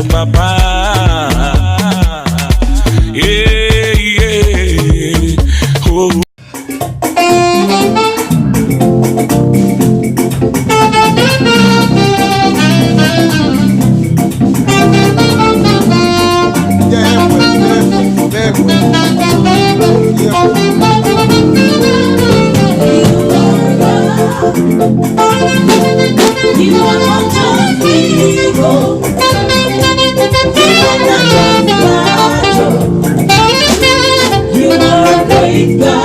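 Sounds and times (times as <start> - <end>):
drums: 0.0 - 36.0
keyboard accompaniment: 0.0 - 36.0
saxophone melody: 6.7 - 36.0.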